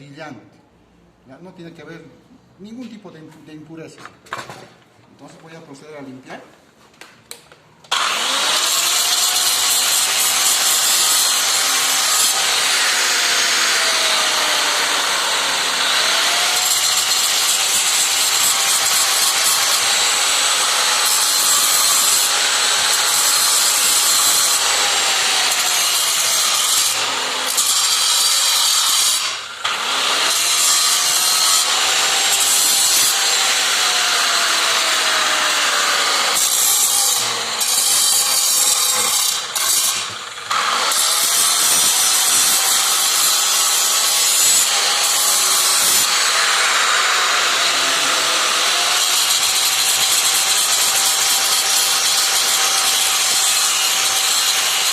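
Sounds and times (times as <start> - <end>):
angle grinder grinding metal: 7.9 - 54.9.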